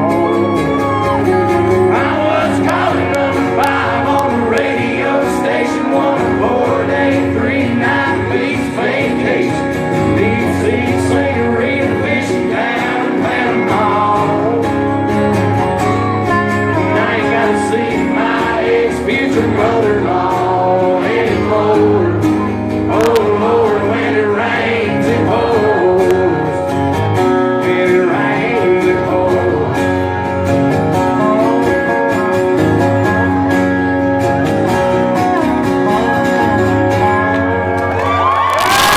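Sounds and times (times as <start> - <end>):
lead guitar: 0.0 - 38.9
live country band playing: 0.0 - 38.9.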